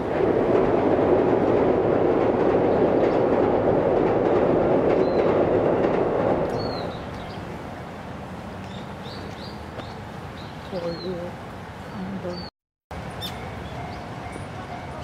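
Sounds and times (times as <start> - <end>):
train crossing steel bridge: 0.0 - 15.0.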